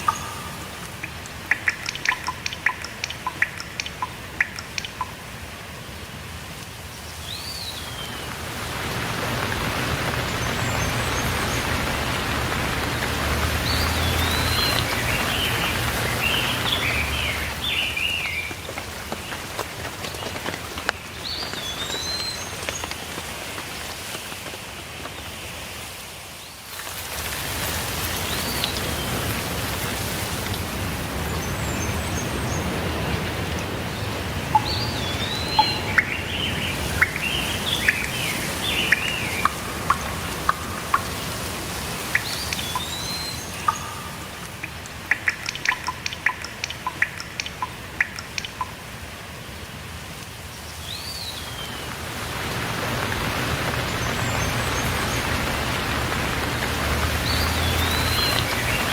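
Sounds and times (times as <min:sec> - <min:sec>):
small birds chirping: 0:00.0 - 0:05.3, 0:06.9 - 0:23.2, 0:31.1 - 0:48.8, 0:50.6 - 0:58.9
steady rainfall: 0:00.0 - 0:58.9.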